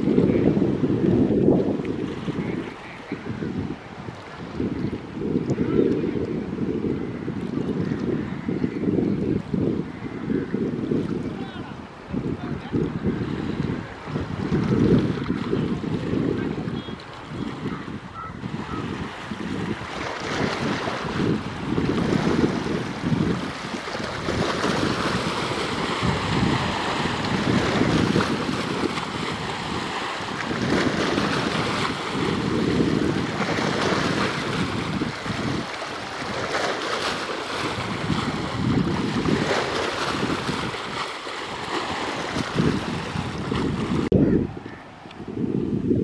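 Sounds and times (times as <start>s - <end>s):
rush of wind and water: 0.0s - 46.0s
wind gusting on microphone: 0.0s - 46.0s.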